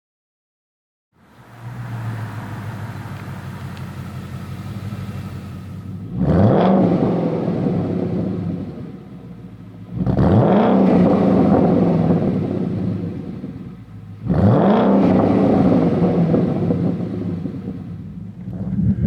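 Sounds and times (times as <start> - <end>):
car engine revving: 1.2 - 19.0.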